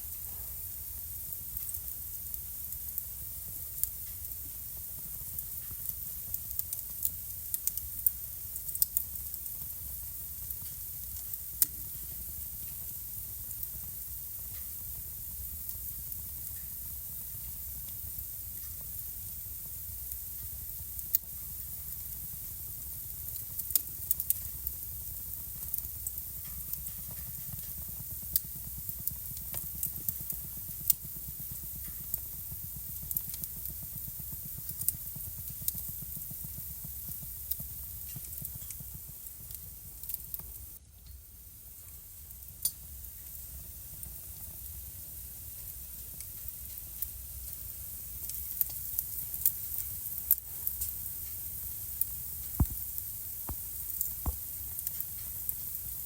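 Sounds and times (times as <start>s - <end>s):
fire crackling and popping: 0.0s - 56.0s
fire hissing: 0.0s - 56.0s.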